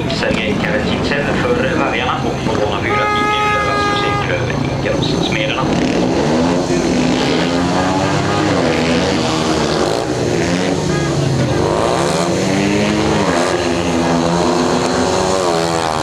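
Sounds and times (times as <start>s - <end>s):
motorbike engines revving: 0.0s - 16.0s.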